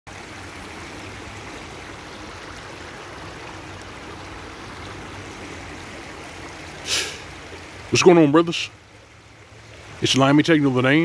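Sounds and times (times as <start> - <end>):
creek running over rocks: 0.1 - 11.0.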